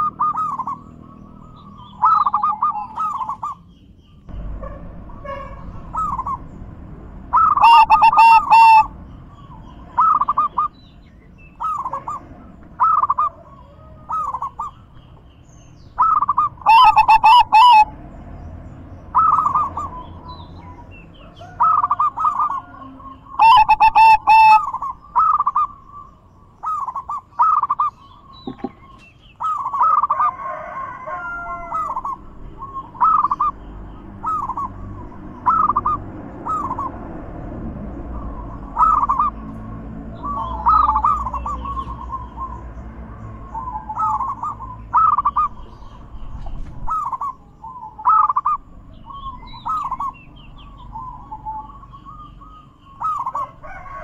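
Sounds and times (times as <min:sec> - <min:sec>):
doves cooing: 0:00.0 - 0:03.6, 0:04.3 - 0:18.2, 0:19.0 - 0:37.1, 0:37.8 - 0:54.0.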